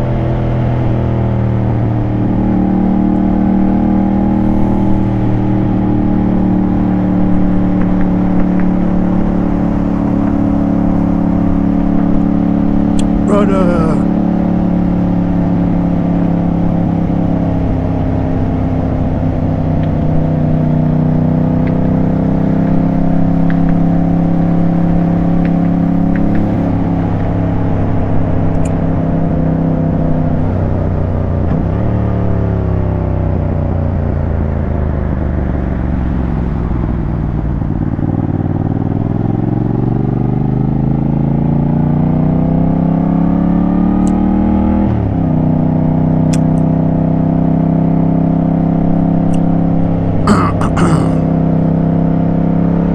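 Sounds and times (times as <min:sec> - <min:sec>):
motorcycle engine cruising: 0:00.0 - 0:13.3, 0:14.0 - 0:52.9.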